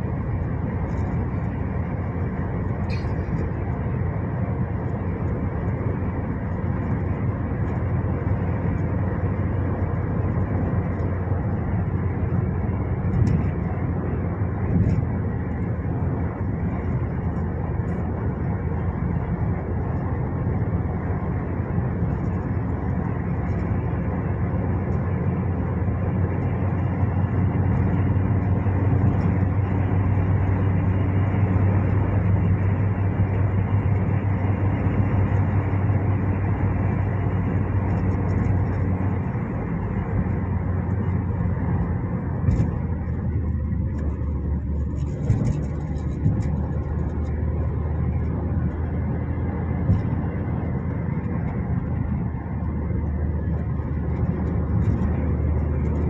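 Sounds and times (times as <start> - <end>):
vehicle rumble with low hum: 0.0 - 56.0.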